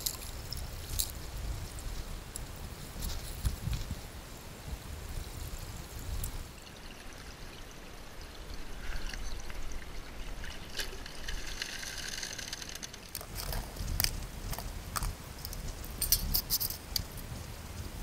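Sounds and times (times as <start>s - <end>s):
creek water running through sluice box: 0.0s - 18.0s.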